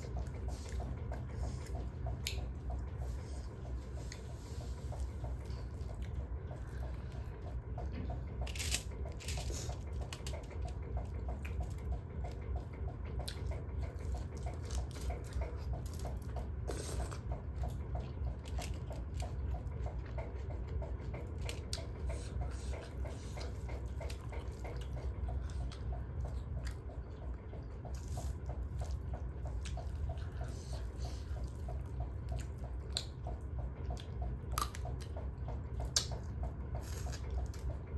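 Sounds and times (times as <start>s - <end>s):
person chewing and eating: 0.0s - 37.9s
steady low hum: 0.0s - 37.9s.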